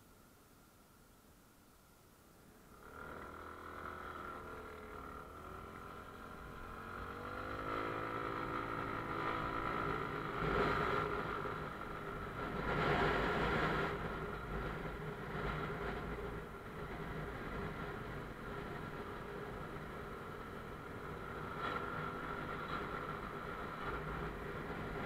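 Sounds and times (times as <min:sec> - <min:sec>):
motorcycle engine revving: 0:02.8 - 0:25.0.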